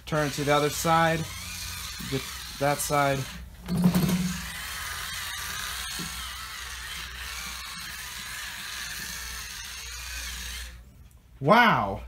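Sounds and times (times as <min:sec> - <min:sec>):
small electric motor whirring: 0:00.0 - 0:10.8.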